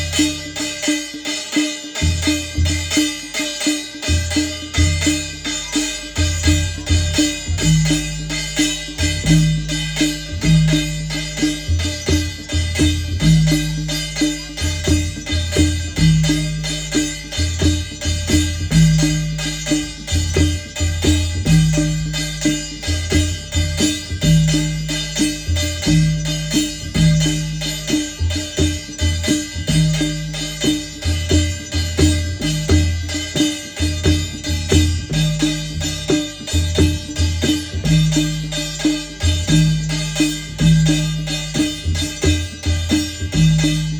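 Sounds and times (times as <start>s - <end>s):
fast drumming: 1.5s - 43.9s.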